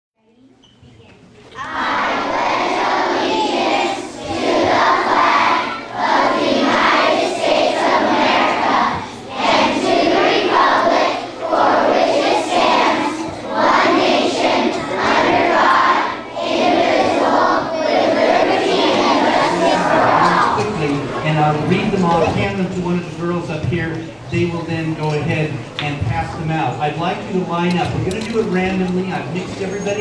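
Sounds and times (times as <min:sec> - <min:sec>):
crowd reciting in unison: 0:01.6 - 0:30.0.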